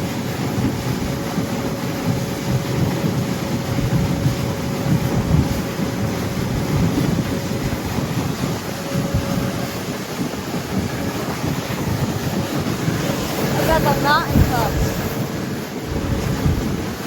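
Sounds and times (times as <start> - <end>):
boat engine: 0.0 - 17.0
water rushing along hull: 0.0 - 17.0
wind buffeting microphone: 0.0 - 17.0.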